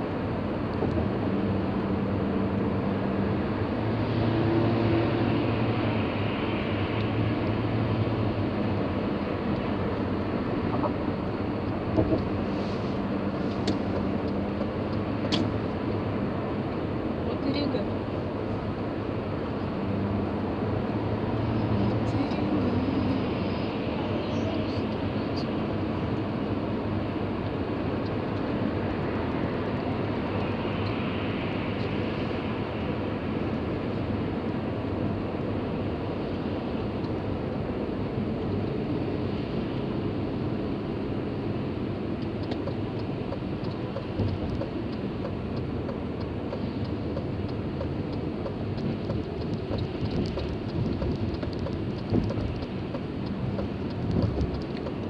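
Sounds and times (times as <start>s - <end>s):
moving car road and engine noise: 0.0s - 55.0s.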